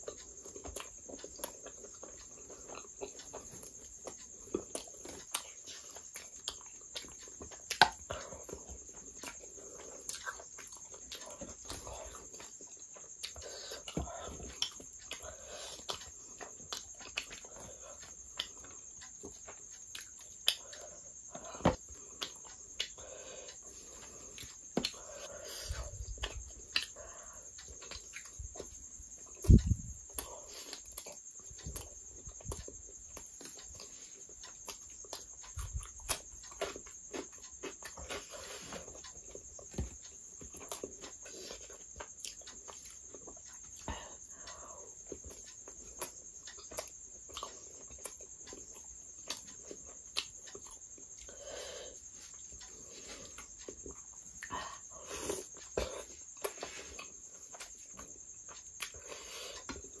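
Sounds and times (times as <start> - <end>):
wet chewing and lip smacking: 0.0 - 25.1, 25.7 - 51.4.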